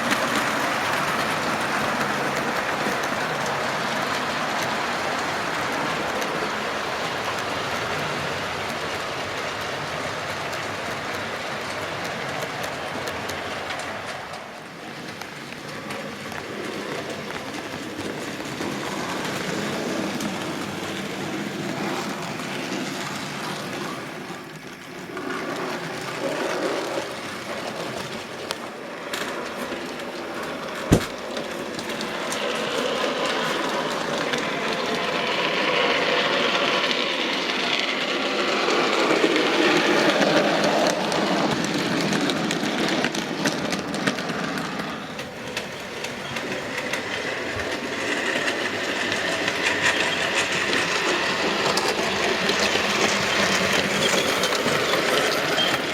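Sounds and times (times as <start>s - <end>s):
model trains running on track: 0.0s - 55.9s.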